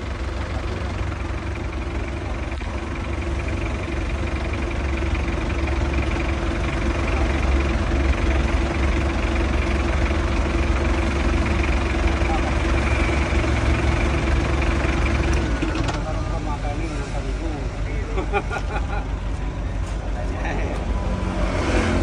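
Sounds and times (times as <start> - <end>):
forklift engine idling: 0.0 - 22.0.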